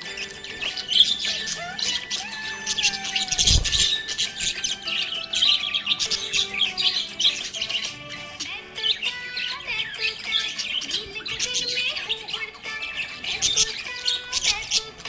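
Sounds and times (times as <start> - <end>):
background music: 0.0 - 15.0
budgies chirping: 0.0 - 15.0.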